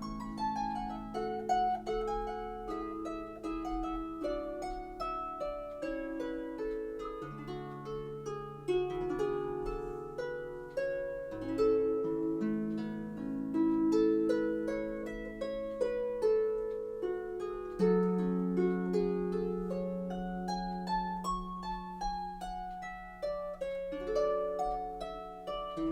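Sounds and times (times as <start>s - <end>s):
solo harp music: 0.0s - 25.9s.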